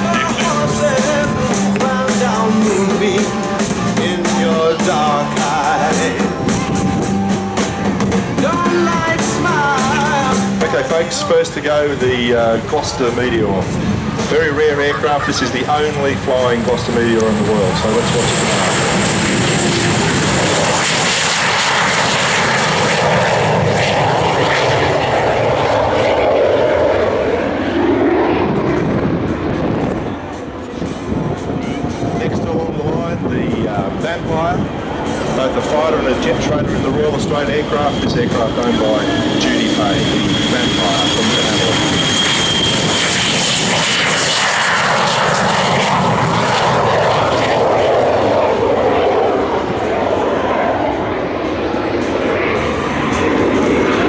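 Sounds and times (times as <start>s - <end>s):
jet engines passing: 0.0s - 54.0s.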